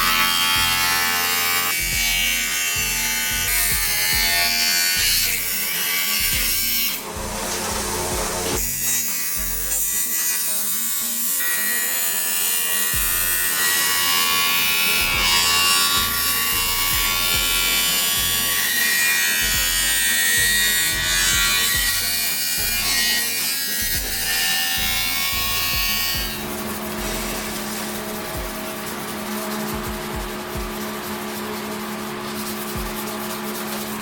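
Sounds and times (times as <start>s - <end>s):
small electric motor buzzing: 0.0s - 34.0s
hip-hop music with steady beat: 1.8s - 5.6s, 6.2s - 10.7s, 12.9s - 13.5s, 14.8s - 18.6s, 19.4s - 34.0s.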